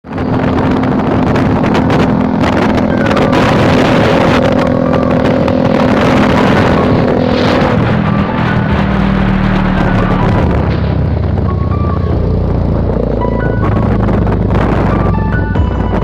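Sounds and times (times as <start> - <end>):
motorcycle engine running: 0.1 - 16.0.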